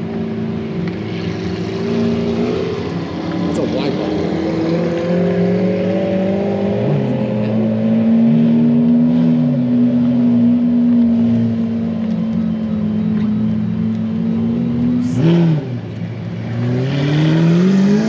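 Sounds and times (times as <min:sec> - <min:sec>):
engine revving: 0:00.8 - 0:11.7, 0:14.2 - 0:18.0.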